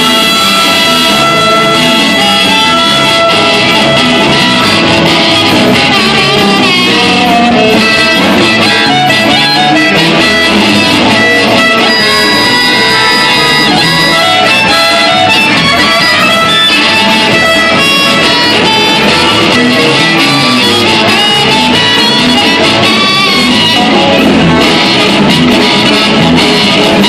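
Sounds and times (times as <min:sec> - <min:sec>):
drums: 0:00.0 - 0:27.0
electric bass: 0:00.0 - 0:27.0
electric guitar: 0:00.0 - 0:27.0
harmonica: 0:00.0 - 0:27.0
trumpet: 0:00.0 - 0:27.0.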